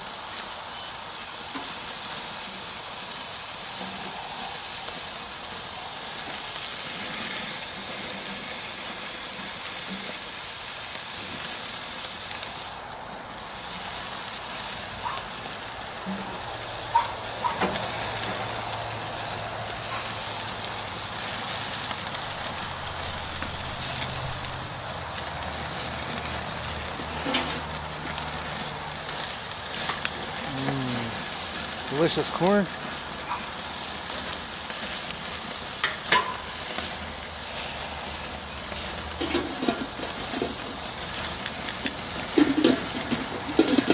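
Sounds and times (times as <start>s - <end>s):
food sizzling on a grill: 0.0s - 43.9s.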